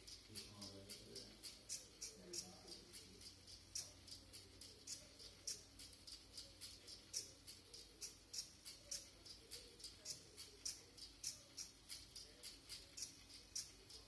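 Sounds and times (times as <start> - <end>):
toy robot arm clicking: 0.0 - 14.0.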